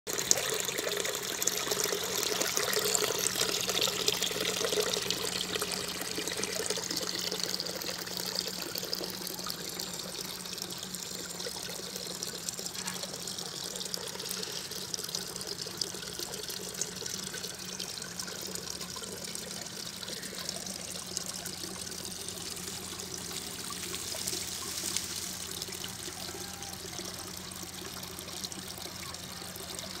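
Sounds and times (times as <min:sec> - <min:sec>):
fountain water trickling and pouring: 0:00.1 - 0:30.0.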